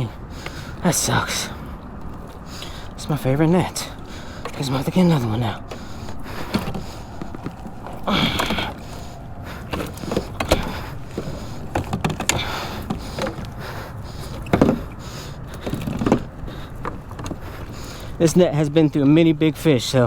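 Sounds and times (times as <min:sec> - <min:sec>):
gear knocks and clicks: 0:00.0 - 0:19.2.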